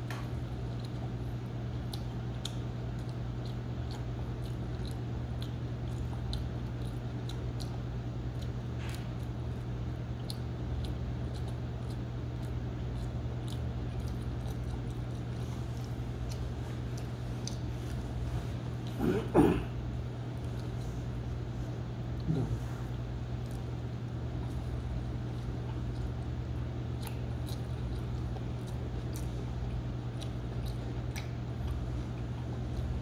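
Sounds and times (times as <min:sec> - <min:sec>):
chewing with mouth clicks: 0:00.0 - 0:33.0
steady low hum: 0:00.0 - 0:33.0.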